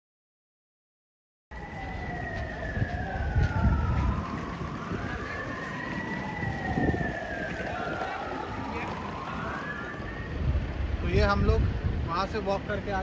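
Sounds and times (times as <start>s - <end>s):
emergency sirens wailing: 1.5s - 12.2s
low rumbling street noise: 1.5s - 13.0s.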